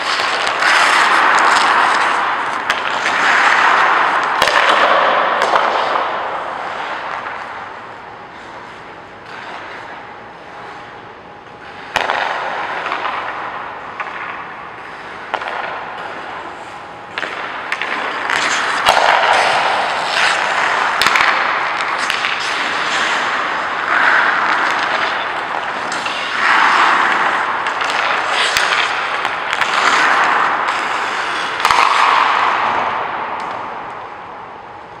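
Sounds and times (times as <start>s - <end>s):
skate blades scraping on ice: 0.0s - 34.3s.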